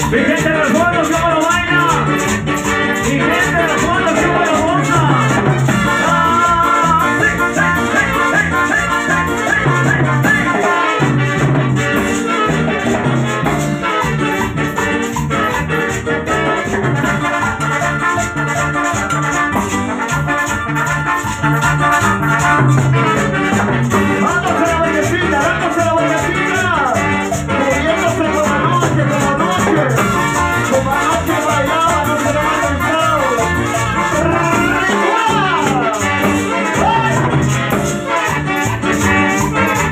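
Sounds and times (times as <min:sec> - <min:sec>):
horns and saxophone: 0:00.0 - 0:39.9
latin dance band playing: 0:00.0 - 0:39.9.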